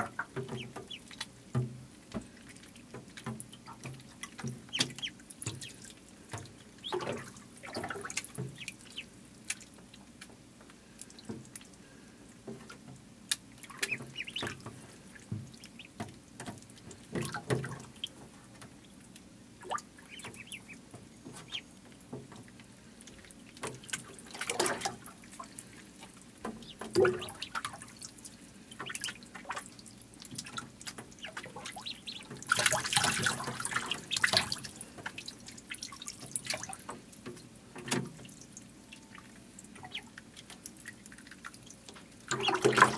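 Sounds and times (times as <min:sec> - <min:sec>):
ducklings splashing in water: 0:00.0 - 0:42.9.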